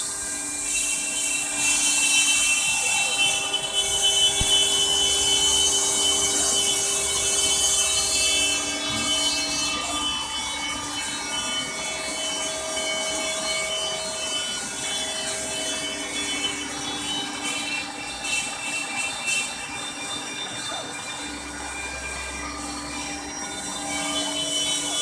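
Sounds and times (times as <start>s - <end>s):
cooling fans whirring: 0.0s - 25.0s
stepper motors whining: 0.0s - 25.0s.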